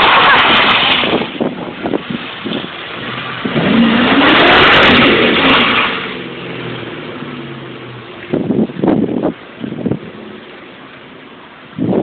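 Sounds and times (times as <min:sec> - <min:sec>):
car engine revving: 0:01.8 - 0:11.5.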